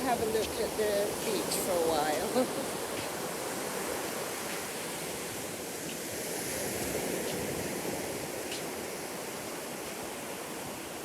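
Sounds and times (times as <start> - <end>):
ocean waves breaking on sand: 0.0 - 11.0.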